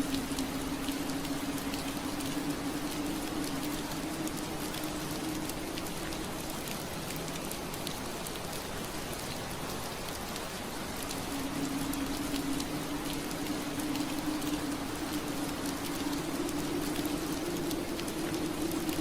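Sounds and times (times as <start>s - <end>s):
rain on window glass: 0.0s - 19.0s.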